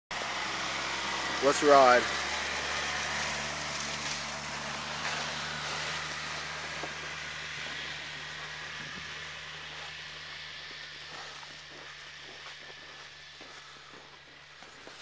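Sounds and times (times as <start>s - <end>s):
utility vehicle engine running: 0.1s - 15.0s.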